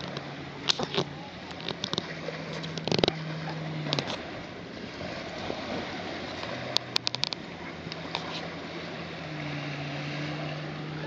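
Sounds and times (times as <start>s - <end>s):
waves washing onto sandy beach: 0.0s - 11.0s.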